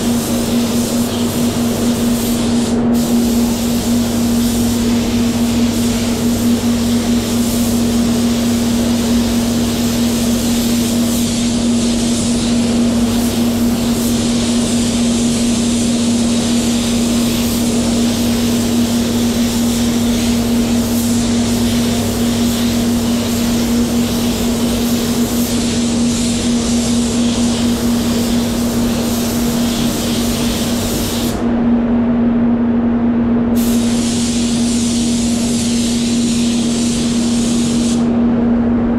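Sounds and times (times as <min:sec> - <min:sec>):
spray gun hissing: 0:00.0 - 0:31.4, 0:33.6 - 0:38.1
steady low hum: 0:00.0 - 0:38.9.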